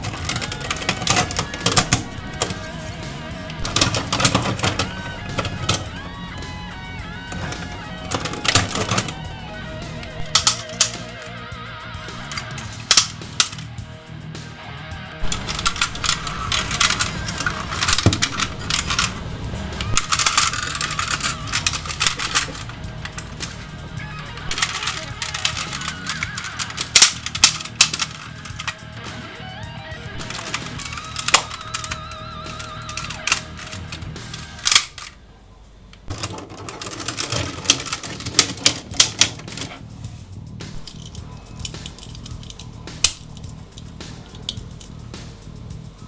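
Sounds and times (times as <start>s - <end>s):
plastic toy parts clattering: 0.0s - 13.8s, 15.2s - 29.2s, 30.1s - 35.2s, 35.9s - 39.9s, 40.7s - 45.0s
background music: 0.0s - 46.0s.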